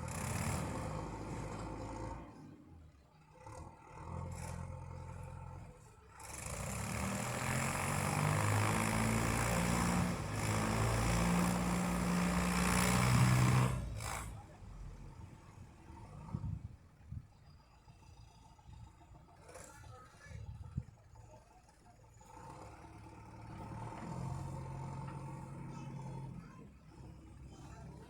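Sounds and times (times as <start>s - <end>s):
tractor engine running: 4.7s - 28.0s.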